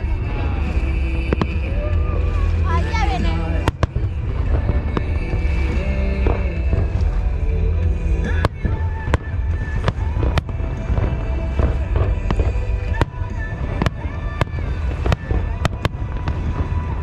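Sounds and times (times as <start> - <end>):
deep rumble: 0.0 - 17.0
fireworks bangs: 0.0 - 17.0
music: 0.0 - 17.0.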